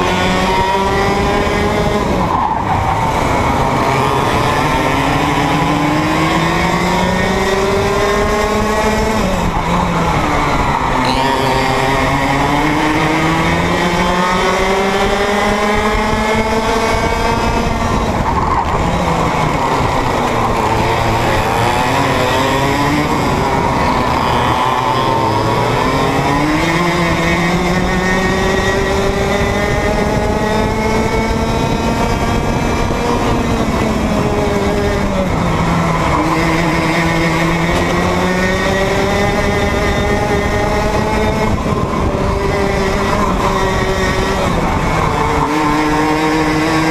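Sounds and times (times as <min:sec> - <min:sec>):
kart engine revving: 0:00.0 - 0:46.9.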